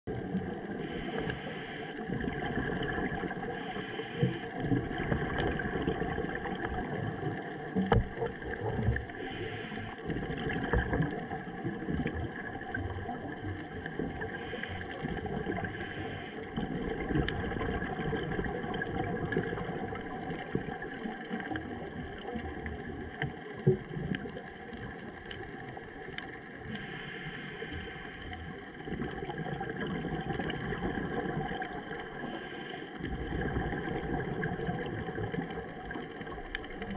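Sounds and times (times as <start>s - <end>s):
scuba regulator bubbles rushing: 0.1s - 36.9s
underwater rumbling hiss: 0.3s - 20.8s, 26.1s - 36.9s.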